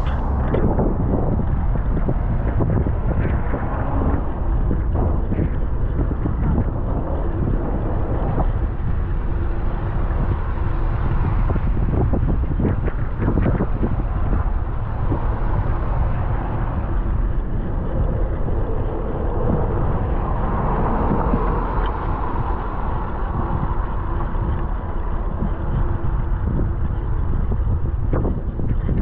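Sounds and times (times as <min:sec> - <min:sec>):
traffic noise: 0:00.0 - 0:29.0
wind rumbling on microphone: 0:00.0 - 0:29.0.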